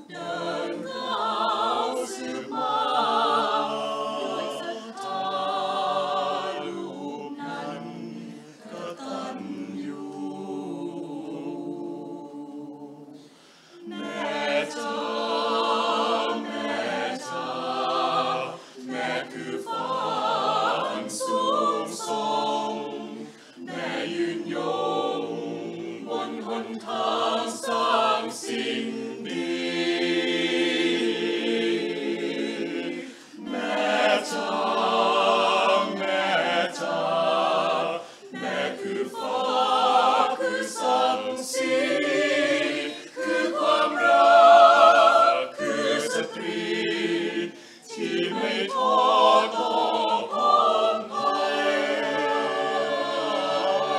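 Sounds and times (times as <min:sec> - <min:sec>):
mixed choir singing a cappella: 0:00.0 - 0:53.9.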